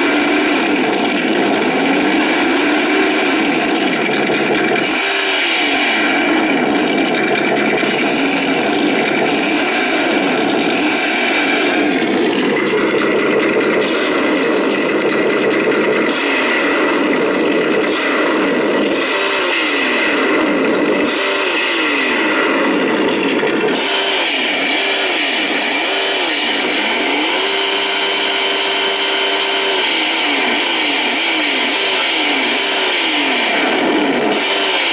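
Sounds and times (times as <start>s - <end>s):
simulated engine revving: 0.0s - 34.9s.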